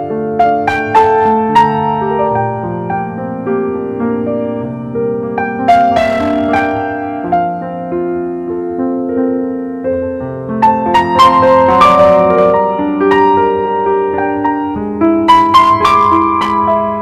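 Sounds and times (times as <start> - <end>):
piano playing held chords: 0.0 - 17.0.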